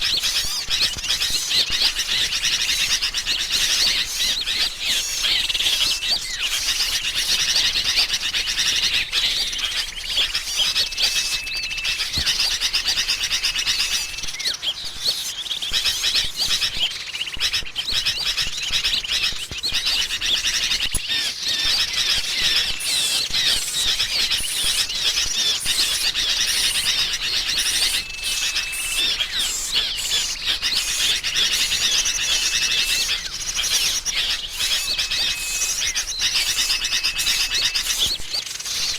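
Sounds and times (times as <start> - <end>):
small songbird calls: 0.0 - 38.9
bulbuls chattering: 0.1 - 38.9
short level bird whistles: 3.6 - 38.9.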